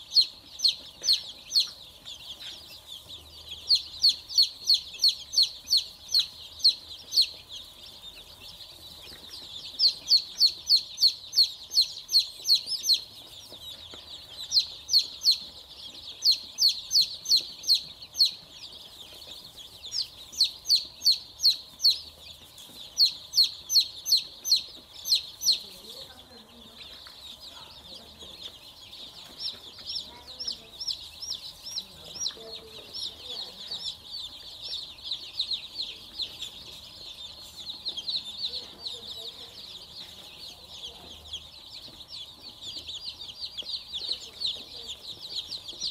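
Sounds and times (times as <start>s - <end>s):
chicks peeping: 0.0s - 45.9s
distant chorus of chicks: 0.0s - 45.9s.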